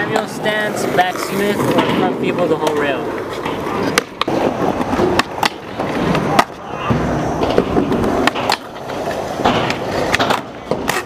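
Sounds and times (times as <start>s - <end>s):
skateboard clacks: 0.0s - 11.0s
skateboard grinding on metal rail: 0.0s - 11.0s
skateboard wheels rolling on concrete: 0.0s - 11.0s.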